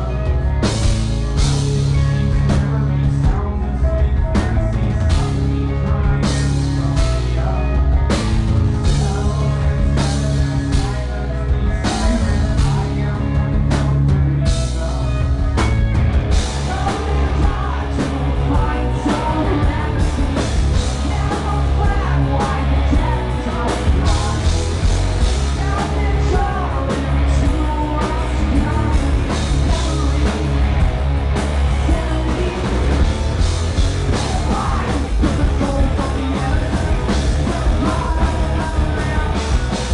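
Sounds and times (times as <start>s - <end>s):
loud rock band playing: 0.0s - 39.9s
man singing lead: 0.0s - 39.9s.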